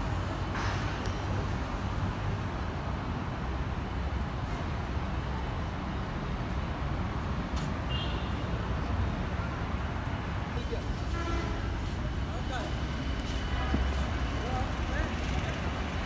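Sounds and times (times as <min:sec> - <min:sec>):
low urban traffic rumble: 0:00.0 - 0:16.0.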